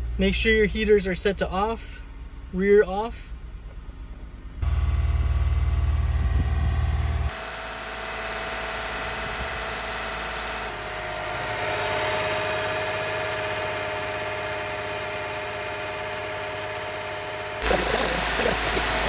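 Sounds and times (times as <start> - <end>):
car engine running: 3.6 - 19.0.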